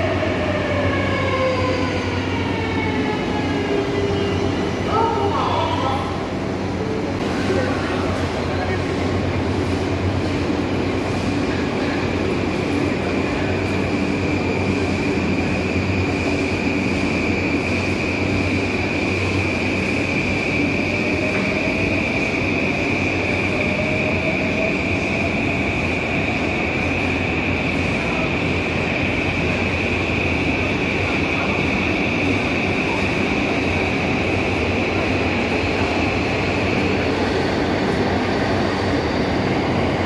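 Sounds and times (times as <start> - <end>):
high even train whine: 0.0 - 40.0
train wheels rumbling on track: 0.0 - 40.0.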